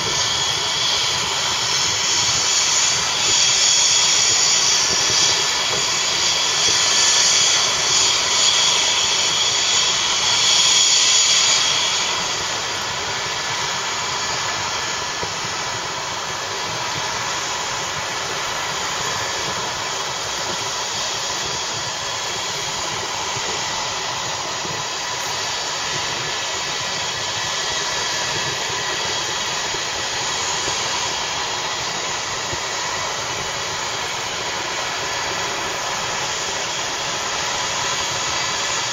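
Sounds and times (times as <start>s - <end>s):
helicopter turbine whine: 0.0s - 38.9s.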